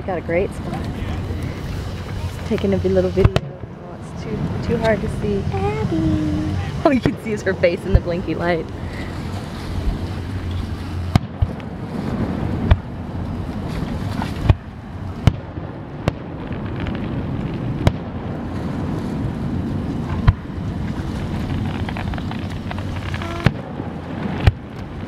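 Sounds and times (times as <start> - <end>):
outdoor background rush: 0.0 - 25.0.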